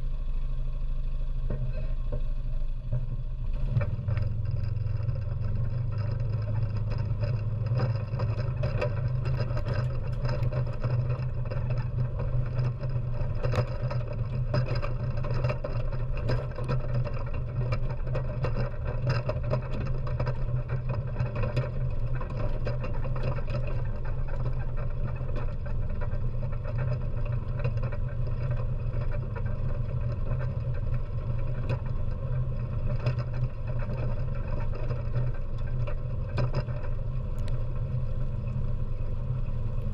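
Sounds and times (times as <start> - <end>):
quad engine running: 0.0 - 39.9
tyres on gravel and dirt: 0.0 - 39.9
clicks and rattles: 2.9 - 39.9.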